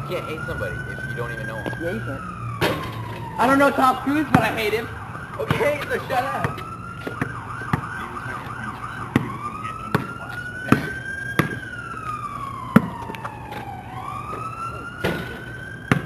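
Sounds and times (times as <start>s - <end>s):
emergency vehicle siren: 0.0s - 16.0s.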